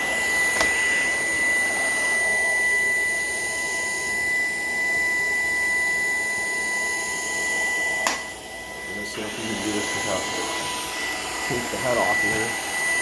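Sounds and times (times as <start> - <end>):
cordless vacuum running: 0.0 - 13.0.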